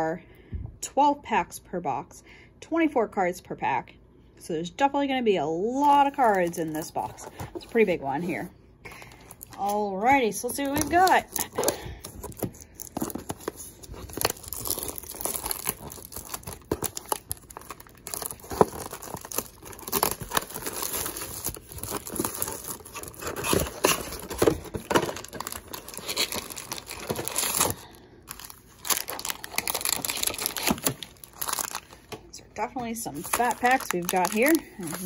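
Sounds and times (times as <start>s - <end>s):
foil packs rustling: 5.8s - 32.2s, 32.8s - 35.0s
shrink wrap crinkling and tearing: 5.8s - 35.0s.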